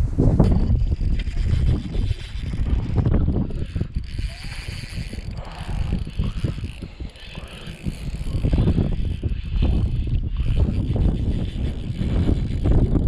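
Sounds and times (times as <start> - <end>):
wind noise on microphone: 0.0 - 13.0
fishing reel winding: 0.5 - 13.0.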